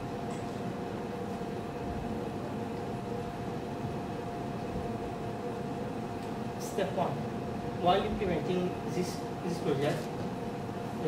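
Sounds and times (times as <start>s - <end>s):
room hum and hiss: 0.0s - 11.0s.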